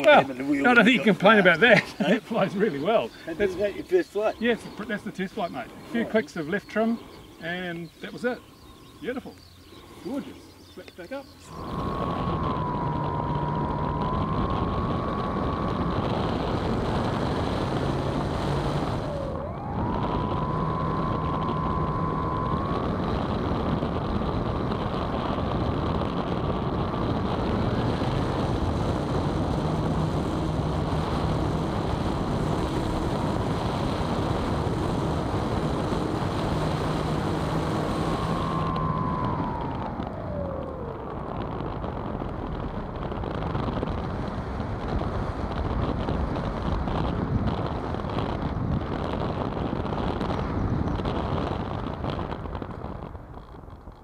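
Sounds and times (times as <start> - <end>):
wind rushing past: 0.0 - 53.8
electric motor and propeller whining: 0.0 - 54.0.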